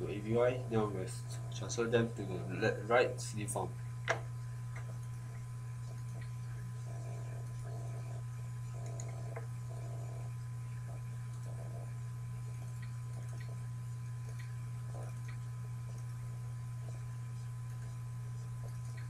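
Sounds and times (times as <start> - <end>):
low electrical hum: 0.0 - 19.0
thin steady whine: 0.0 - 19.0.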